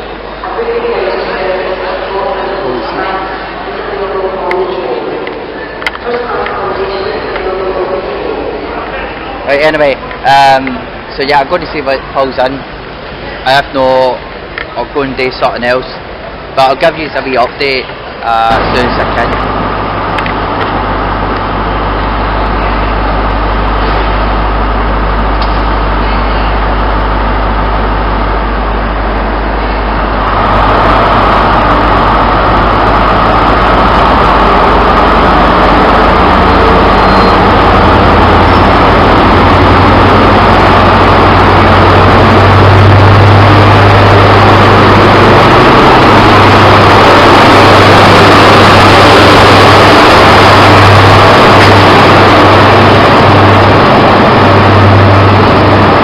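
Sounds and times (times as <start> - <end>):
diesel train engine humming: 0.0 - 56.0.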